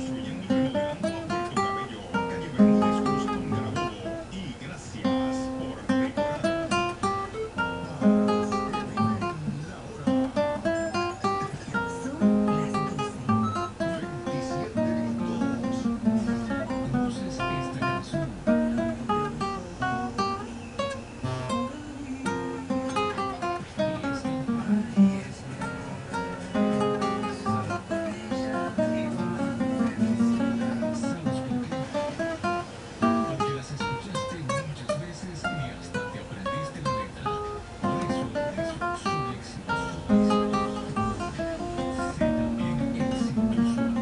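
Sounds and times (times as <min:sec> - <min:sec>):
acoustic guitar plucked: 0:00.0 - 0:44.0.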